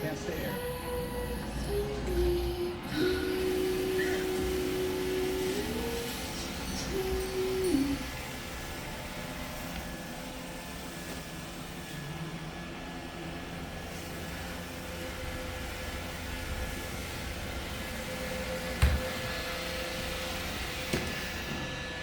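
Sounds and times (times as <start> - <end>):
robot vacuum whirring: 0.4 - 22.0.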